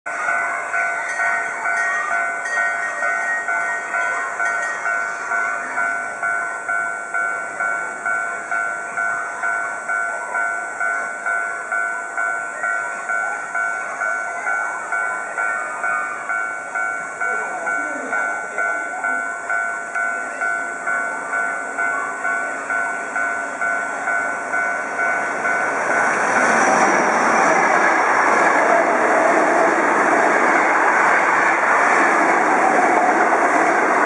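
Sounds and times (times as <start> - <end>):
level-crossing warning bell: 0.1 - 34.0.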